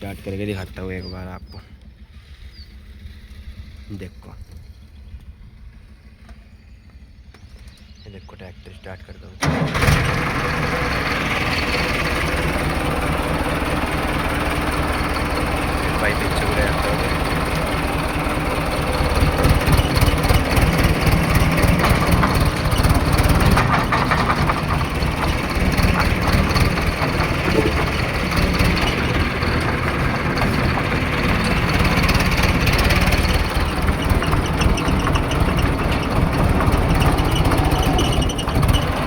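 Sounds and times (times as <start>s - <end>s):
tractor diesel engine chugging: 0.0s - 39.0s.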